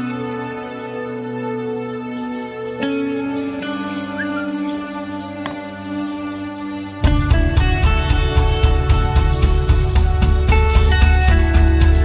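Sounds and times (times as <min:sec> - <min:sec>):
music with sustained notes: 0:00.0 - 0:12.0.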